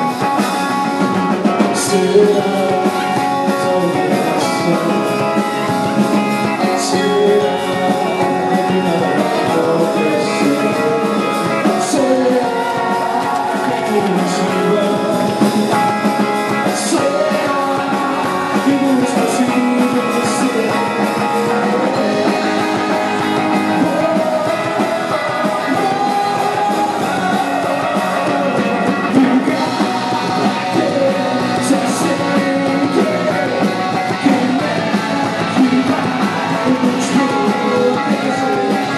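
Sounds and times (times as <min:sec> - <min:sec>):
person singing: 0:00.0 - 0:38.9
rock band playing: 0:00.0 - 0:38.9.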